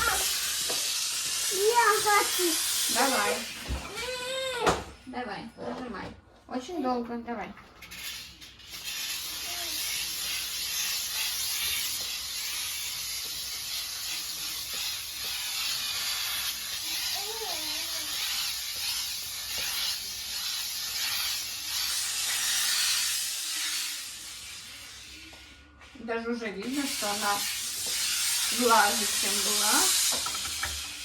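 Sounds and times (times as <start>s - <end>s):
steam hissing: 0.0s - 4.6s, 7.8s - 25.7s, 26.4s - 31.0s.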